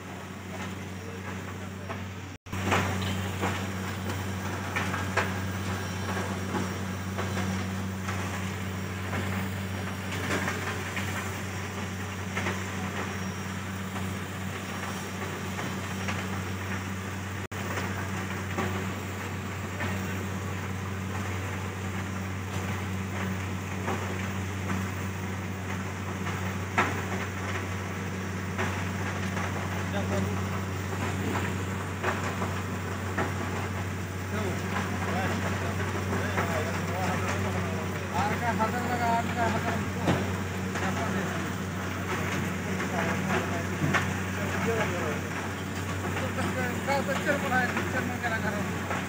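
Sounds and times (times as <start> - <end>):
factory machinery hum: 0.0 - 49.0
tractor engines: 0.0 - 49.0.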